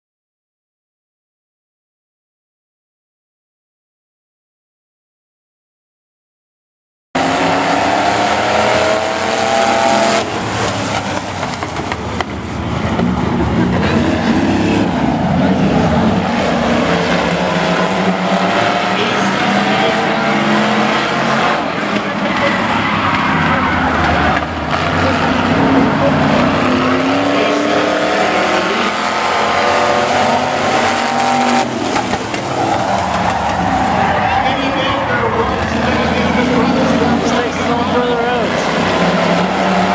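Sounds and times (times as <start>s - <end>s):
truck engines running hard: 7.2s - 39.9s.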